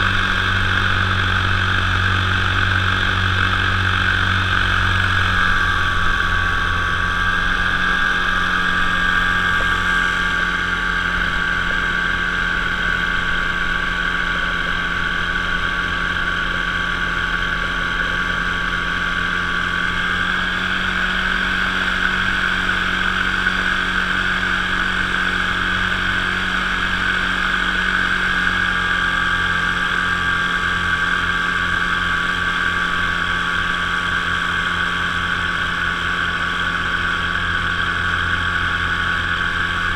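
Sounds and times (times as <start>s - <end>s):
paramotor engine buzzing: 0.0s - 39.9s.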